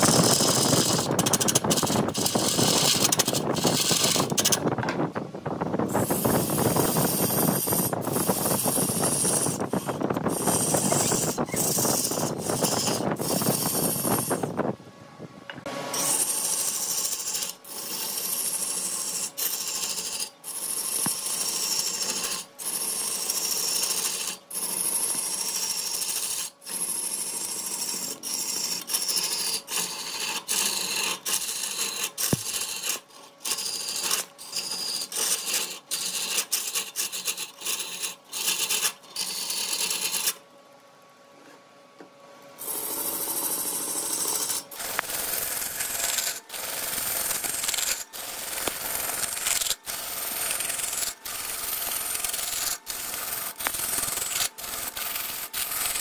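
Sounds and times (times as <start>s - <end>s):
lathe tool cutting wood: 0.0s - 4.6s, 6.0s - 14.5s, 15.9s - 40.3s, 42.6s - 56.0s.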